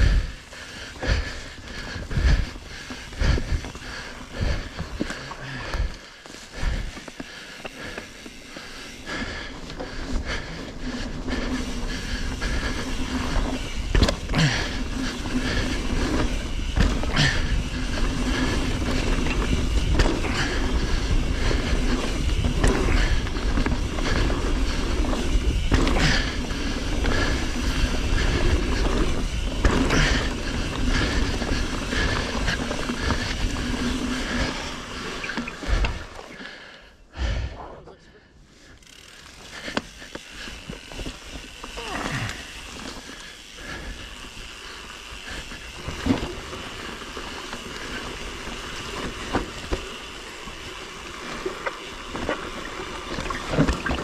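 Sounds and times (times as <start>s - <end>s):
bike rattling over bumps: 0.0s - 37.5s, 38.5s - 54.0s
bike tyres rolling over dirt: 0.0s - 37.6s, 38.4s - 54.0s.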